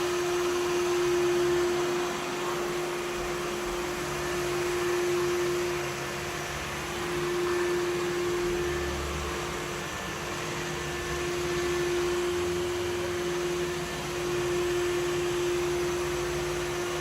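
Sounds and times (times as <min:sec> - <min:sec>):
robot vacuum cleaner whining: 0:00.0 - 0:17.0.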